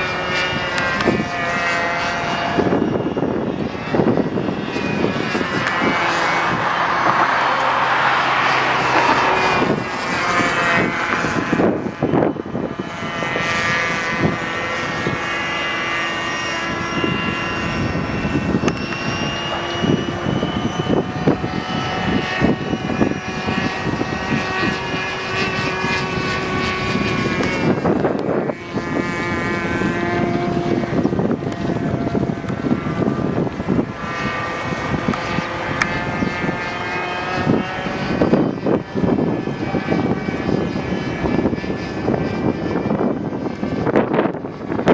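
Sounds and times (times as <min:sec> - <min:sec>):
model airplane engine running: 0:00.0 - 0:44.9.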